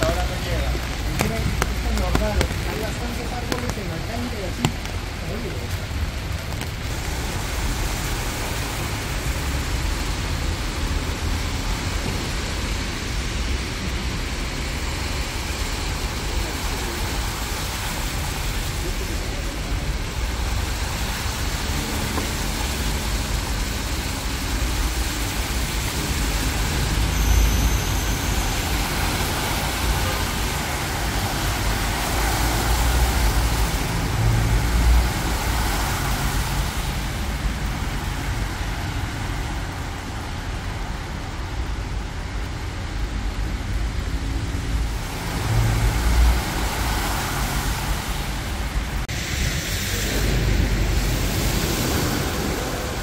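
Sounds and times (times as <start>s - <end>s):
passing vehicles rumbling: 0.0s - 53.0s
tyres hissing on wet road: 0.0s - 53.0s.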